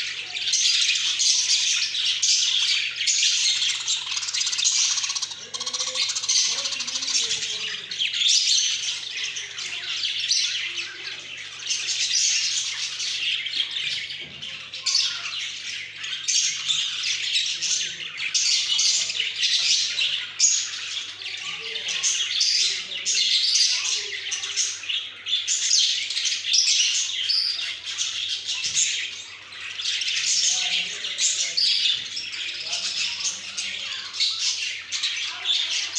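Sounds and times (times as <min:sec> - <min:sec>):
budgerigars chattering: 0:00.0 - 0:35.9.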